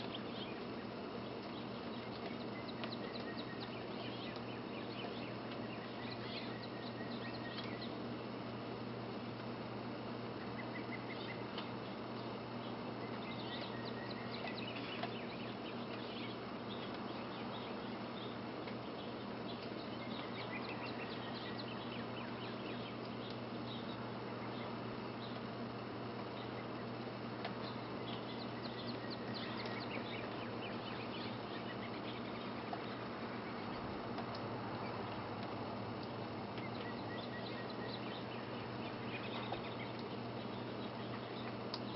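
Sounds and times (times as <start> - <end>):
low constant hum: 0.0 - 41.9
outdoor hiss: 0.0 - 41.9
small birds chirping: 0.0 - 41.9.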